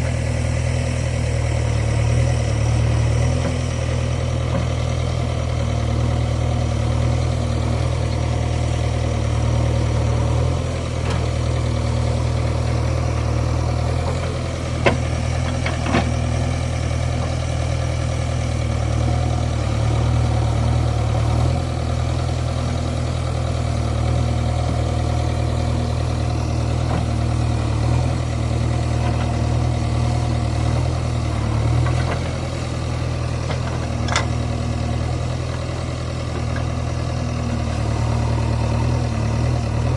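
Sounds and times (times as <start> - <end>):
heavy vehicle engine idling: 0.0 - 39.9.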